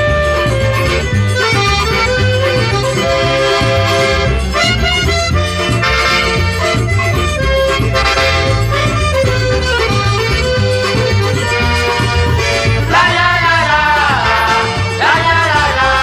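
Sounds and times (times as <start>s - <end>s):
accordion melody: 0.0s - 16.0s
bass beat with percussion: 0.0s - 16.0s.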